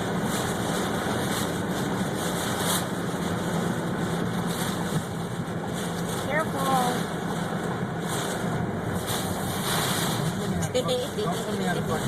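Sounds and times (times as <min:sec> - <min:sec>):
low car engine hum: 0:00.0 - 0:12.0
road and wind noise: 0:00.0 - 0:12.0.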